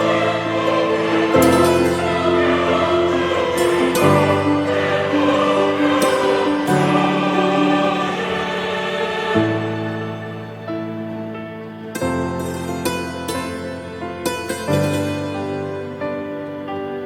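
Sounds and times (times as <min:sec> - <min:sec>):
choir-like background music: 0:00.0 - 0:17.0.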